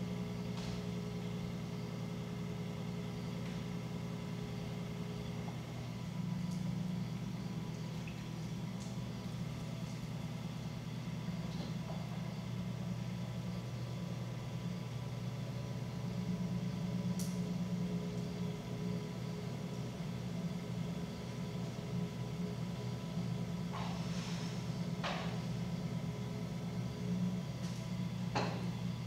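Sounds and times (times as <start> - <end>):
potter's wheel motor humming: 0.0 - 29.0.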